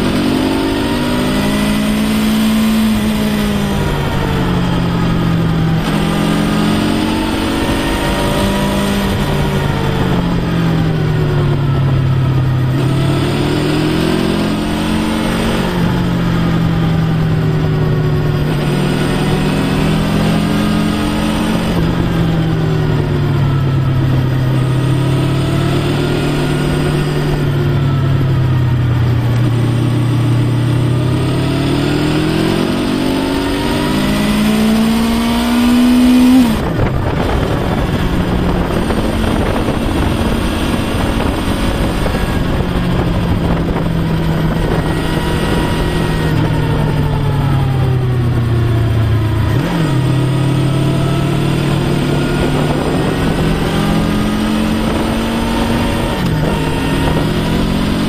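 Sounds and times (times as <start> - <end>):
motorcycle engine revving: 0.0 - 58.0
steady rushing noise: 0.0 - 58.0.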